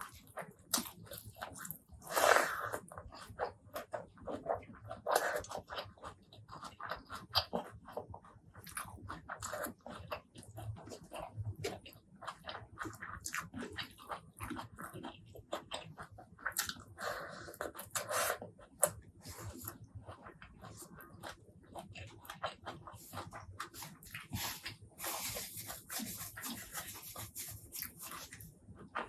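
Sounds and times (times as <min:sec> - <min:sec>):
wet chewing and lip-smacking: 0:00.0 - 0:29.0.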